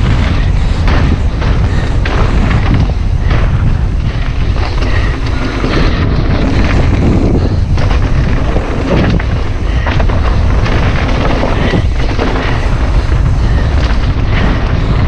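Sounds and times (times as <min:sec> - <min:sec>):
bike knocks and rattles: 0:00.0 - 0:15.0
tyres rumbling on dirt: 0:00.0 - 0:15.0
wind buffeting microphone: 0:00.0 - 0:15.0.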